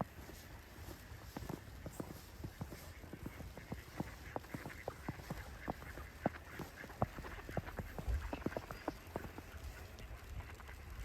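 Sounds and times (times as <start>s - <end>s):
footsteps in snow: 0.0s - 10.5s.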